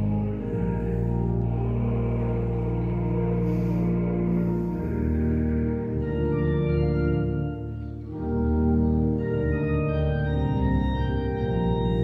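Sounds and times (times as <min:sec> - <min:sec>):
organ playing held chords: 0:00.0 - 0:12.0.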